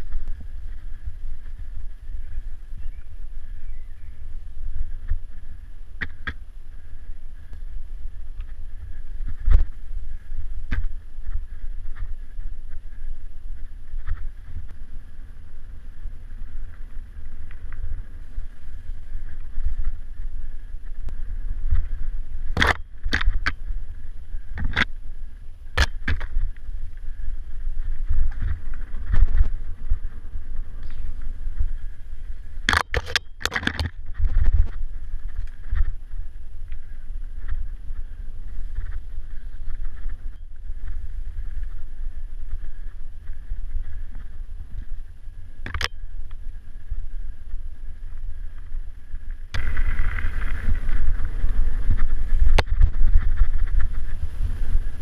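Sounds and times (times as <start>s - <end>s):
bike tyres rolling on dirt: 0.0s - 55.0s
wind rumble on microphone: 0.0s - 55.0s.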